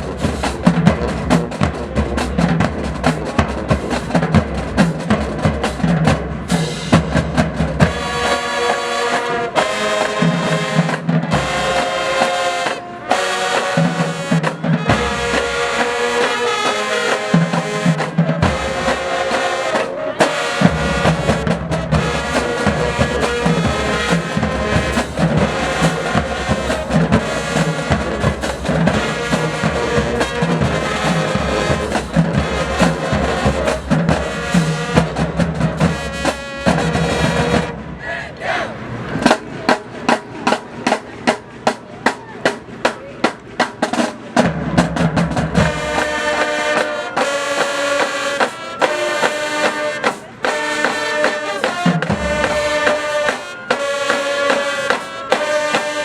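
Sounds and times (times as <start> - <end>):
snare and bass drums: 0.0 - 37.9, 39.2 - 56.0
marching band brass: 0.0 - 56.0.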